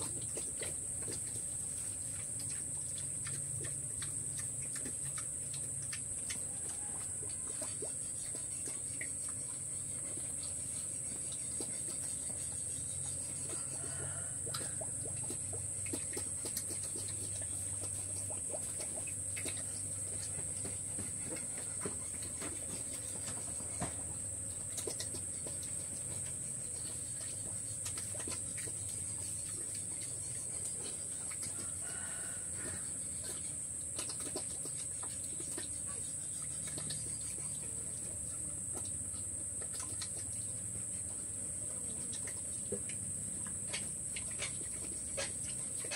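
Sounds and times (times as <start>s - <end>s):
insects droning: 0.0s - 45.9s
pig eating from trough: 0.0s - 45.9s.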